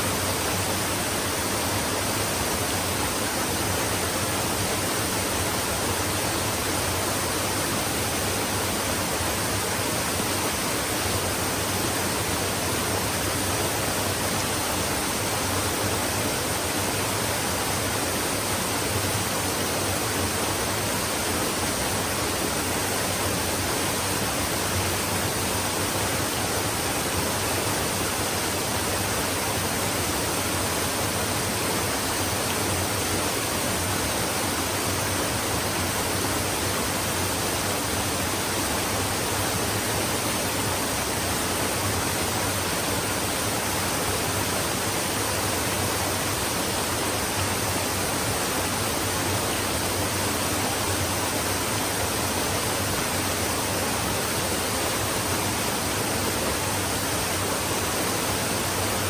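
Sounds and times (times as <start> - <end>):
stream water running: 0.0 - 59.0.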